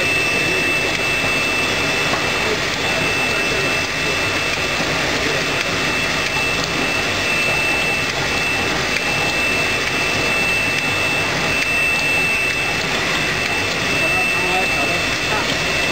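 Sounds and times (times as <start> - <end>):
bottling machine humming: 0.0 - 15.9
high steady whine: 0.0 - 15.9.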